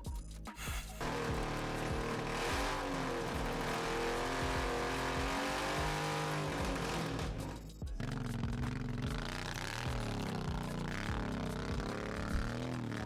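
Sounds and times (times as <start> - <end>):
engine grumbling: 0.8 - 13.0.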